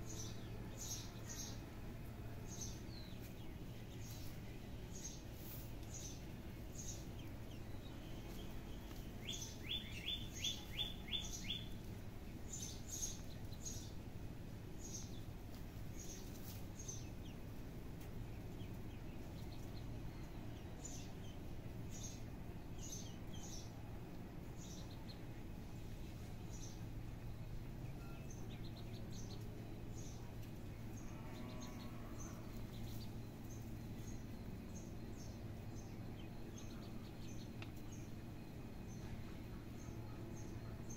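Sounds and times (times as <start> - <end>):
low outdoor background noise: 0.0 - 40.9
small birds chirping: 0.0 - 40.9.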